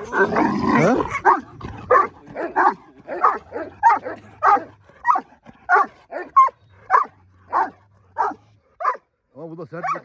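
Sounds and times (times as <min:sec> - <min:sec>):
dog barking: 0:01.1 - 0:09.1, 0:09.8 - 0:10.0.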